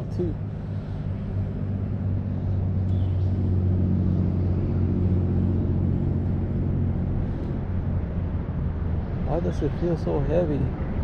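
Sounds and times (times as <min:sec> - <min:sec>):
engine running low drone: 0:00.0 - 0:11.0.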